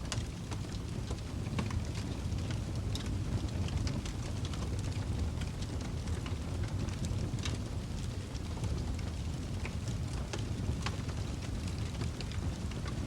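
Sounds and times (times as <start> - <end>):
wood fire burning: 0.0 - 13.0.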